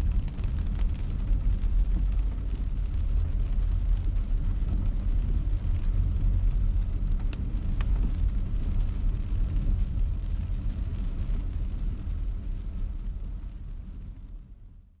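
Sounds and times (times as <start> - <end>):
car road and engine rumble: 0.0 - 14.4
rain and wet tyres hissing: 0.0 - 14.4.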